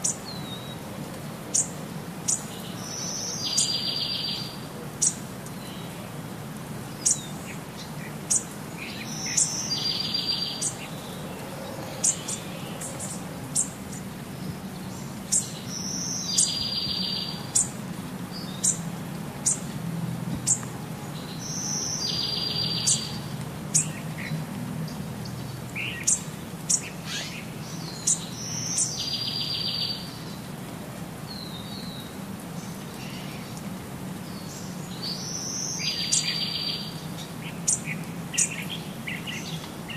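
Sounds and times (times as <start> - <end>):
birds chirping: 1.5 - 6.2, 6.8 - 19.7, 20.4 - 30.6, 31.3 - 39.9.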